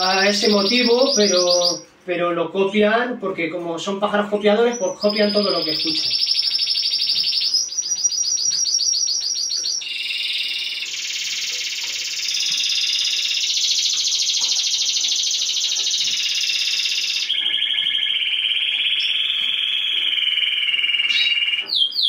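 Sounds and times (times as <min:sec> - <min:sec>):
canary singing trills: 0:00.0 - 0:02.0, 0:04.1 - 0:22.0.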